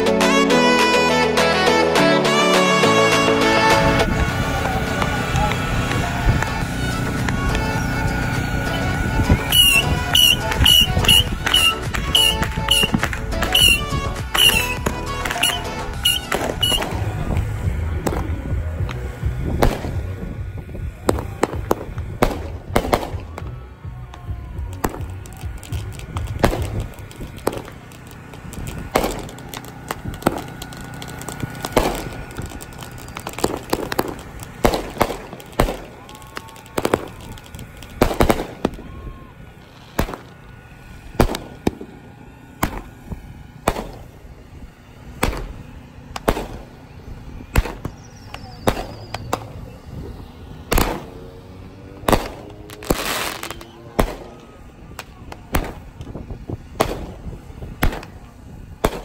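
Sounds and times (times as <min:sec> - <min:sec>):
fireworks bangs and pops: 0:03.5 - 0:59.0.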